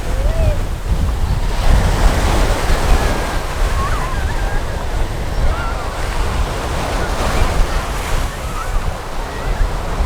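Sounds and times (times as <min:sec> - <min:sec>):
ocean surf washing: 0:00.0 - 0:10.0
wind buffeting microphone: 0:00.0 - 0:10.0.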